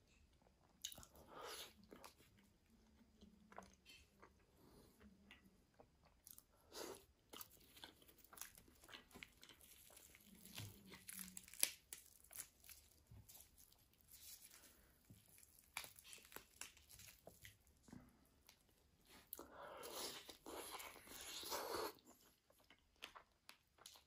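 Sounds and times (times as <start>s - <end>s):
crunchy food being chewed: 0.2s - 24.0s.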